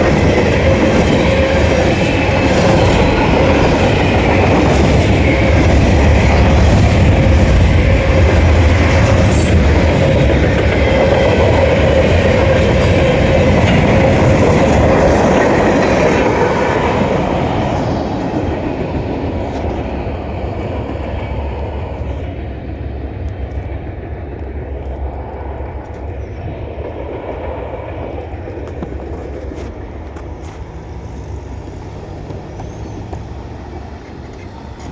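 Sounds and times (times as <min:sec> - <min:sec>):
train wheels clacking on rails: 0:00.0 - 0:34.9.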